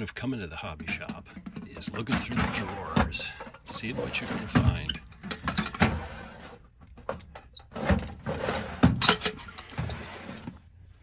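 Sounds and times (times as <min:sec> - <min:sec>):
metal drawers sliding: 0:01.7 - 0:10.6.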